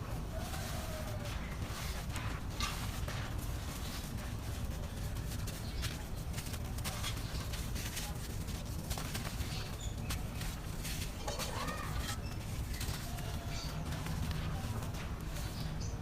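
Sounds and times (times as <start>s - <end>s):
dry dirt crumbling: 0.0s - 16.0s.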